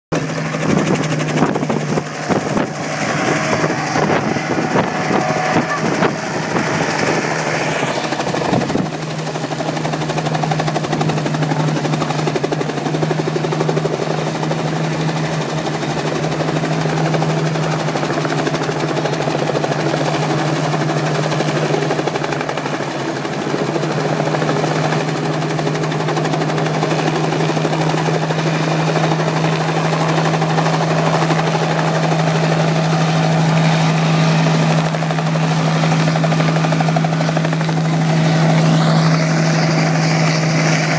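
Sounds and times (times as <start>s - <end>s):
helicopter engine hum: 0.1s - 40.9s
helicopter rotor chopping: 0.1s - 40.9s.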